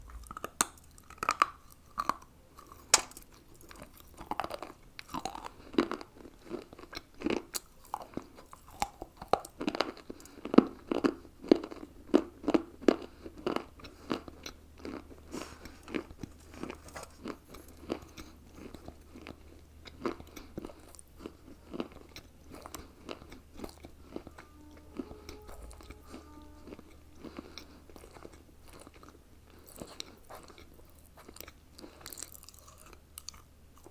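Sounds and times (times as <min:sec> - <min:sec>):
crunching and chewing: 0:00.0 - 0:33.9.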